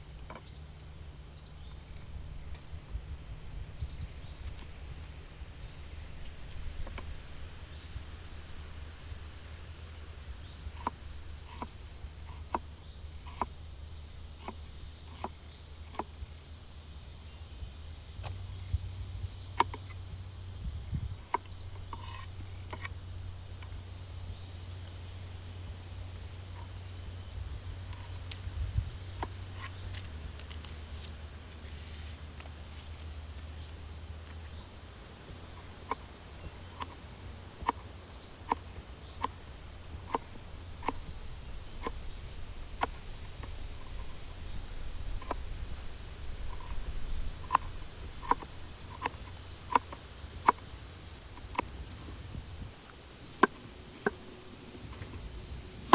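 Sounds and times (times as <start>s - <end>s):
low steady rumble: 0.0s - 55.9s.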